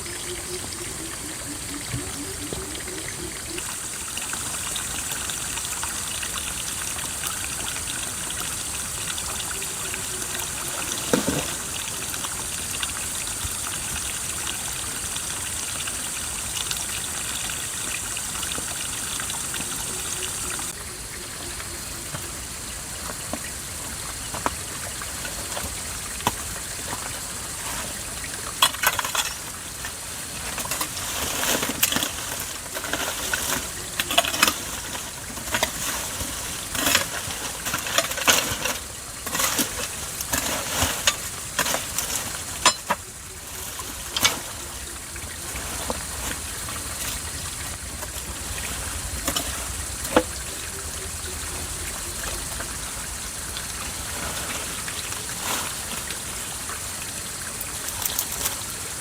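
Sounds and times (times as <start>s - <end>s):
running water splashing: 0.0s - 59.0s.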